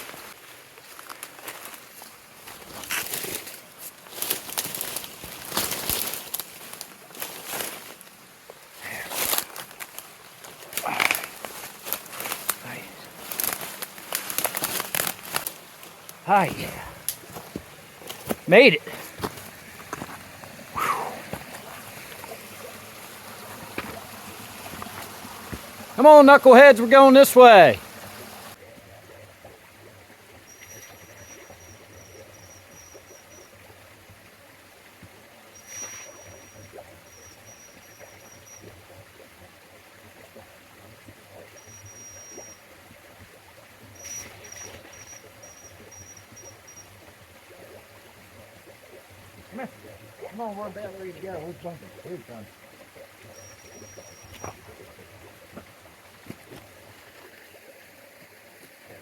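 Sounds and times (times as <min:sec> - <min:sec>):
mountain stream running: 0:00.0 - 0:59.0.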